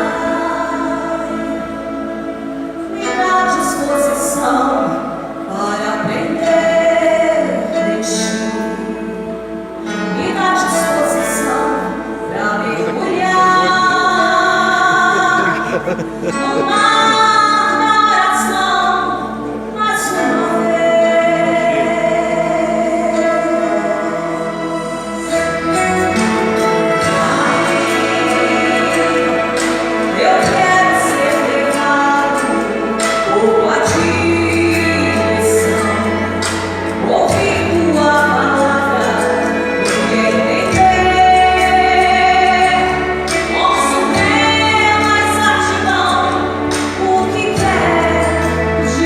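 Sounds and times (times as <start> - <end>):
instrumental accompaniment: 0.0 - 49.0
women singing in harmony: 0.0 - 49.0.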